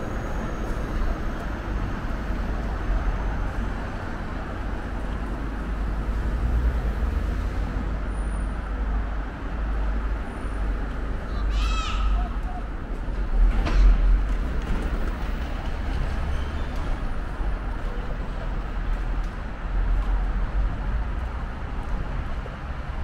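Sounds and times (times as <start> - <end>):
city road traffic rumble: 0.0 - 23.0.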